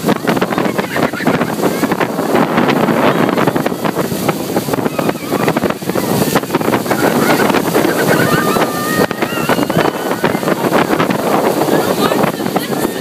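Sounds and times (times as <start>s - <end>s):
waterfall roaring: 0.0s - 13.0s
wind buffeting microphone: 0.0s - 13.0s.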